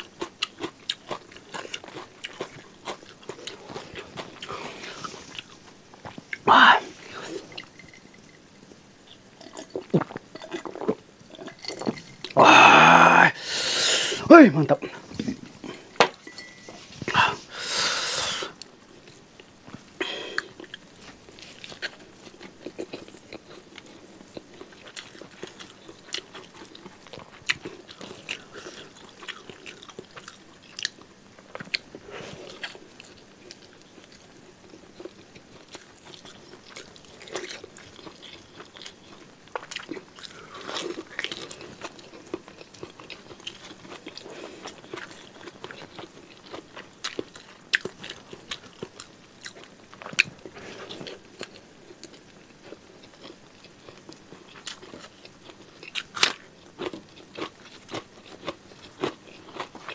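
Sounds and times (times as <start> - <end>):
person chewing food: 0.0 - 13.3, 14.9 - 59.9.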